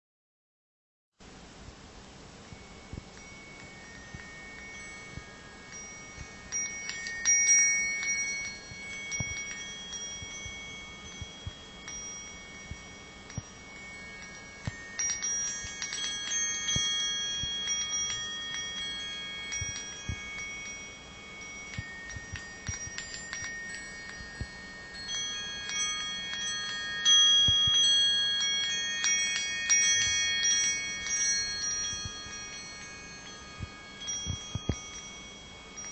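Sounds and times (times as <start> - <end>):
brass tube wind chime ringing: 2.4 - 35.9.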